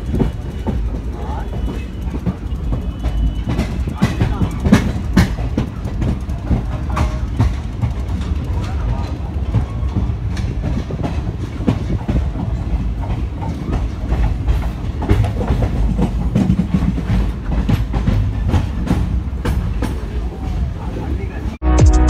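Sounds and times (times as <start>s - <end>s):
wheels clacking over rail joints: 0.0s - 21.5s
train wheels rumbling on rails: 0.0s - 21.6s.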